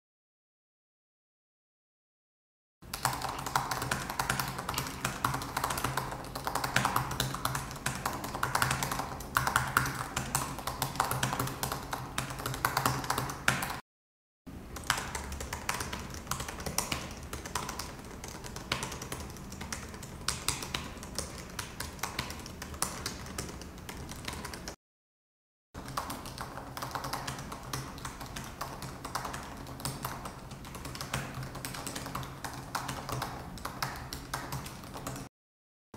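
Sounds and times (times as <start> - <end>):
fast typing on laptop keyboard: 2.9 - 13.8, 14.8 - 24.8, 25.8 - 35.3.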